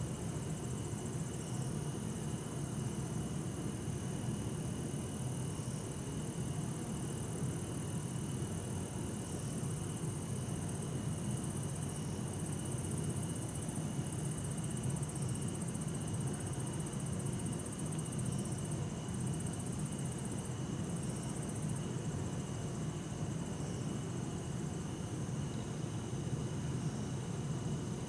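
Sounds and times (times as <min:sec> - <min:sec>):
crickets and insects trilling: 0:00.0 - 0:28.0.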